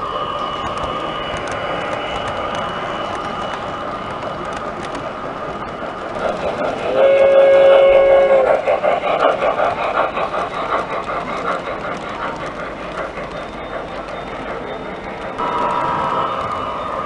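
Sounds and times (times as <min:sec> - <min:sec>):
model train rolling with whine: 0:00.0 - 0:17.0.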